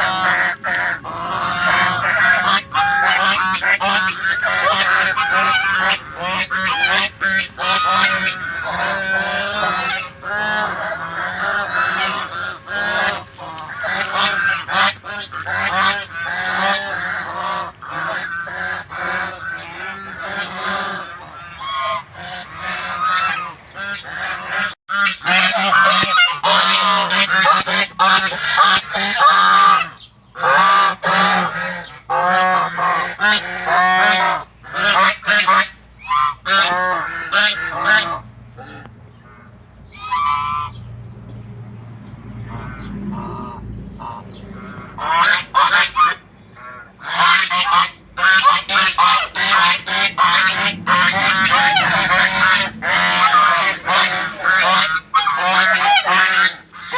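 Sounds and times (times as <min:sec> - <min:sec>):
geese honking: 0:00.0 - 0:41.1, 0:42.0 - 0:56.9.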